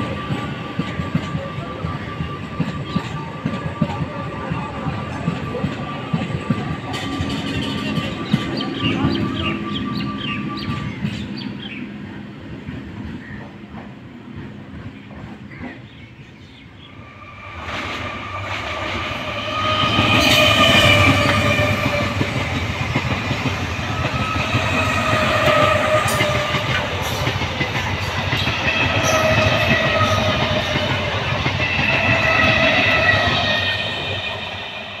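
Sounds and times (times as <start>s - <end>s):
receding train: 0.0s - 35.0s
train wheels rumbling on rails: 0.0s - 35.0s.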